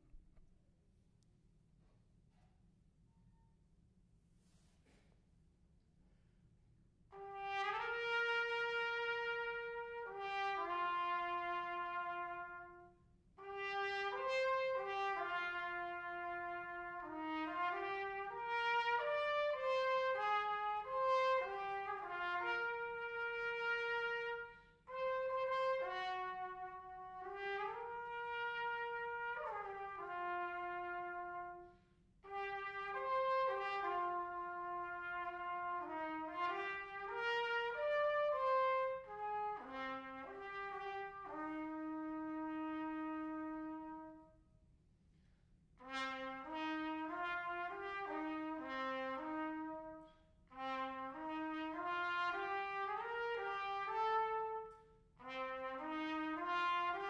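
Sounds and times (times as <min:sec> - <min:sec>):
trumpet playing slow melody: 0:07.1 - 0:44.4, 0:45.8 - 0:57.0.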